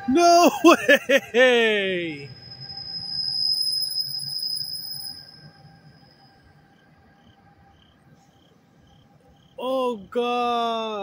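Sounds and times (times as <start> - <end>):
electric locomotive whine and rumble: 0.0 - 9.5.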